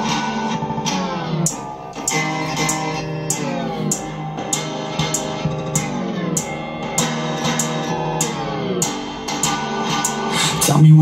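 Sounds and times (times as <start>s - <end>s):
guitar-led pop music on speaker: 0.0s - 11.0s.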